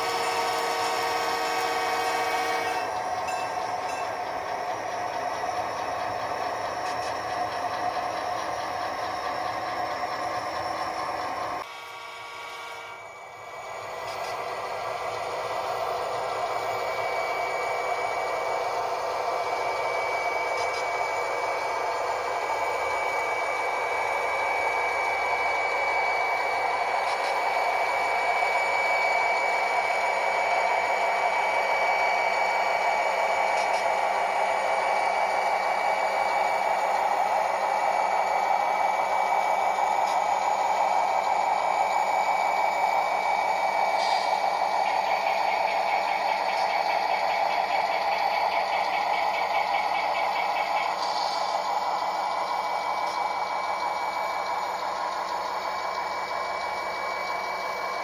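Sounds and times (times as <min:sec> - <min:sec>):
model train whir and wheel rumble: 0:00.0 - 0:58.0
thin high whine: 0:00.0 - 0:58.0.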